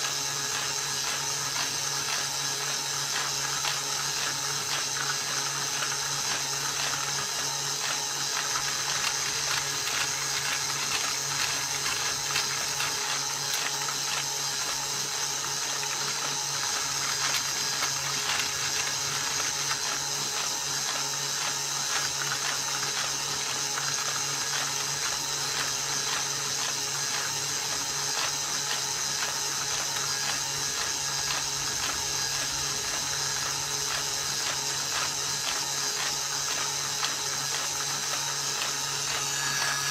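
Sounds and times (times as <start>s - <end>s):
plastic gears clattering: 0.5s - 39.9s.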